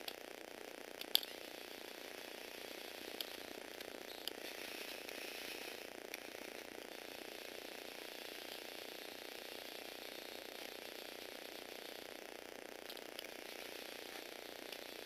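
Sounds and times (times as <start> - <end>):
toy motors whirring: 1.0 - 15.0.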